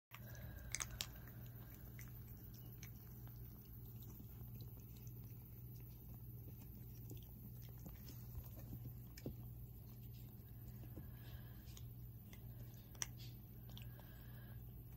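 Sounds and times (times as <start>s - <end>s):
puppies chewing dry kibble: 0.1s - 14.9s
steady low hum: 0.1s - 14.9s.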